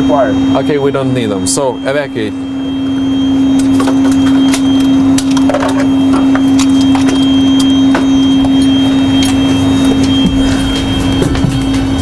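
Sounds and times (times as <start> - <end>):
alarm horn tone: 0.0 - 12.0.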